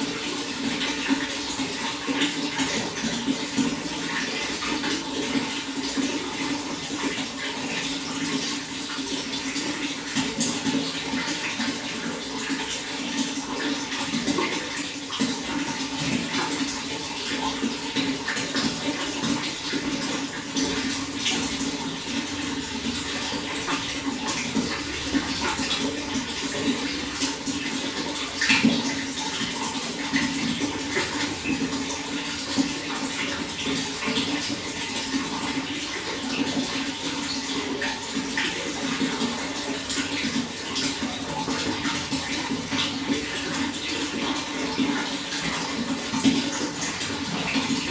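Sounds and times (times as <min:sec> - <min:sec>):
running water with splashes: 0:00.0 - 0:47.9.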